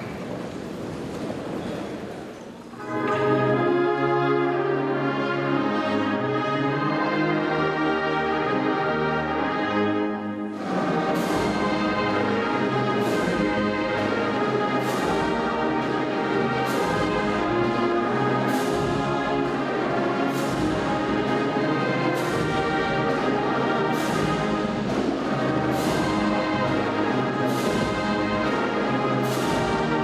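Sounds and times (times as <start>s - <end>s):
brass band playing slowly: 2.7s - 30.0s.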